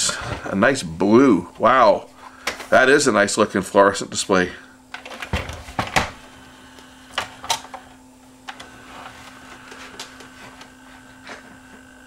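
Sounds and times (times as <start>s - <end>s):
high whine of tray mechanism: 0.0s - 12.0s
low steady hum: 0.0s - 12.0s.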